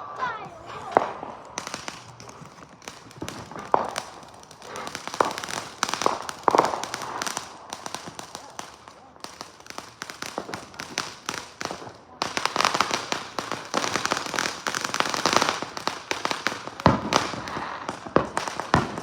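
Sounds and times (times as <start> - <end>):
fireworks bangs: 0.0 - 19.0
fireworks crackling pops: 0.0 - 19.0.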